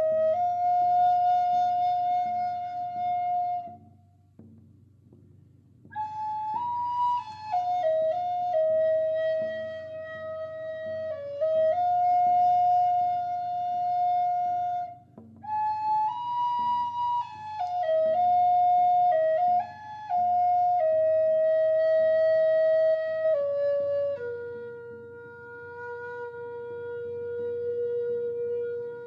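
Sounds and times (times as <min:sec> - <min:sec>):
flute playing slow melody: 0:00.0 - 0:04.0, 0:05.9 - 0:29.0.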